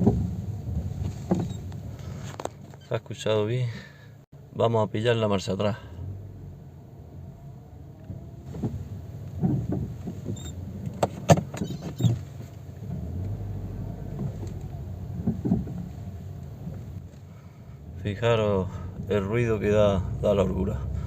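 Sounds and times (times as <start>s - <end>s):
car engine running low: 0.0s - 2.8s, 5.4s - 21.0s
suspension knocking clunks: 0.0s - 2.8s, 6.0s - 21.0s.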